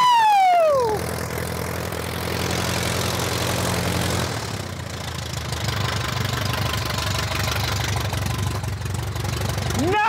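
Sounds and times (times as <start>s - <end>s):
small piston engine idling: 0.8s - 10.0s.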